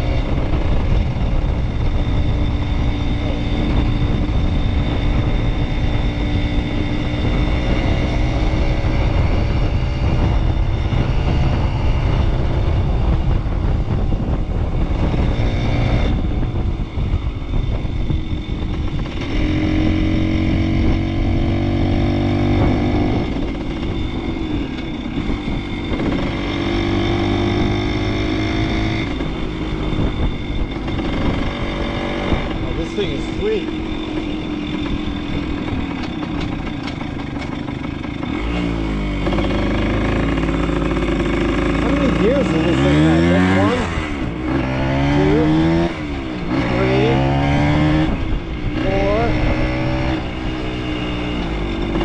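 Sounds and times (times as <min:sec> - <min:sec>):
motorcycle engine accelerating: 0:00.0 - 0:52.0
wind noise on microphone: 0:00.0 - 0:52.0.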